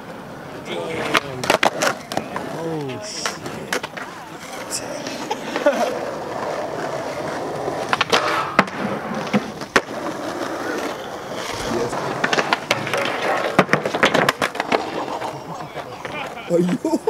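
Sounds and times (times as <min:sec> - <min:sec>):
skateboard clacking on ground: 0:00.0 - 0:17.0
skateboard wheels rolling on concrete: 0:00.0 - 0:17.0.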